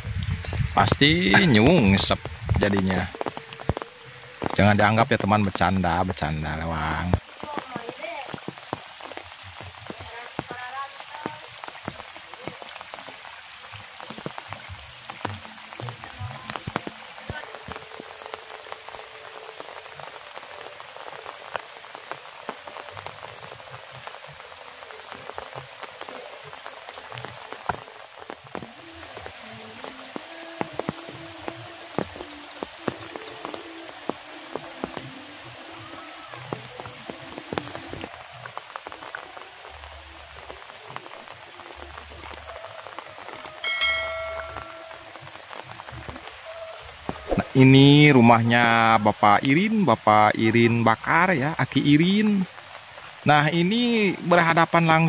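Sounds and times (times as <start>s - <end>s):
raindrops ticking: 0.0s - 55.0s
steady rain hiss: 0.0s - 55.0s.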